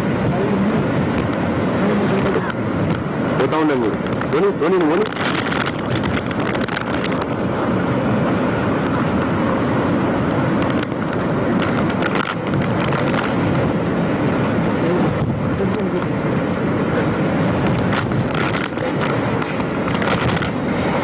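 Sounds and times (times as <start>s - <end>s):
strong wind on microphone: 0.0s - 21.0s.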